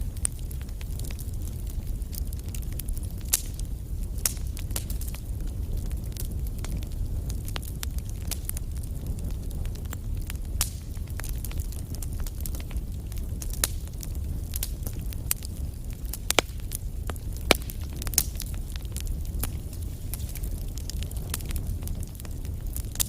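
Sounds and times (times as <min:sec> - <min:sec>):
fire crackling: 0:00.0 - 0:23.0
low rumble of flames: 0:00.0 - 0:23.0.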